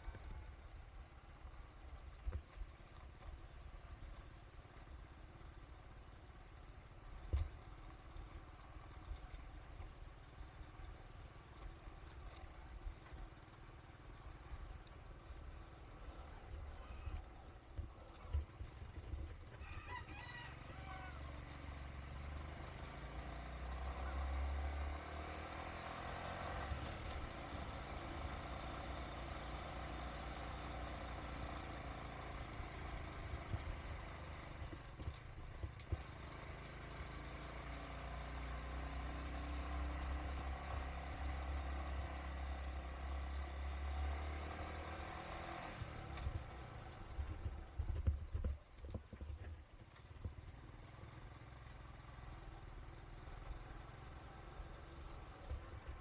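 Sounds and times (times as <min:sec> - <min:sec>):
vehicle engine speeding up and slowing: 0:00.0 - 0:56.0.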